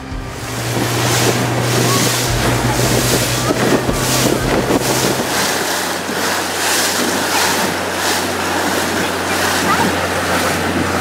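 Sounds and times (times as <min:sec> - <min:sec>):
boat engine running: 0:00.0 - 0:11.0
water rushing along hull: 0:00.0 - 0:11.0
wind buffeting microphone: 0:00.0 - 0:11.0.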